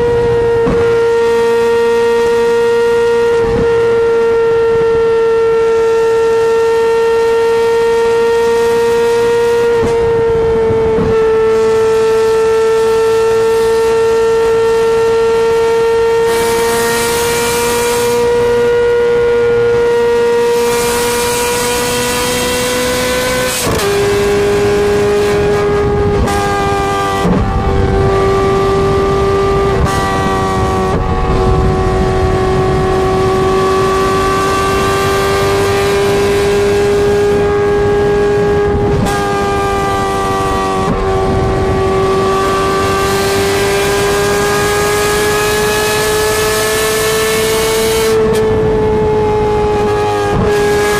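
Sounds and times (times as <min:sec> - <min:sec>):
loud car engine droning: 0:00.0 - 0:50.9.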